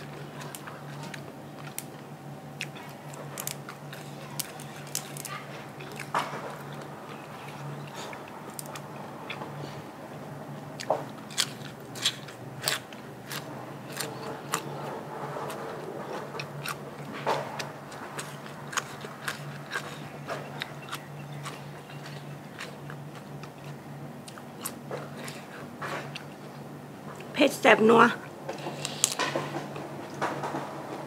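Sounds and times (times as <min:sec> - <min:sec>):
person chewing crunchy food: 0:00.0 - 0:27.3.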